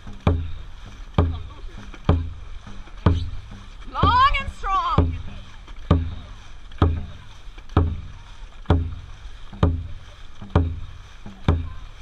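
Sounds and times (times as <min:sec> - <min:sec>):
low booming drum beats: 0:00.0 - 0:12.0.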